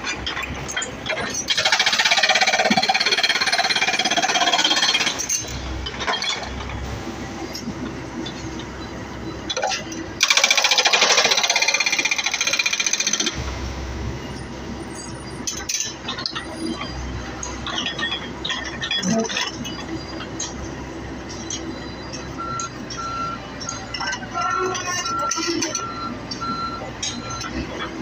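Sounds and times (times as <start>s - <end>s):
excavator engine rumble: 0.0s - 28.0s.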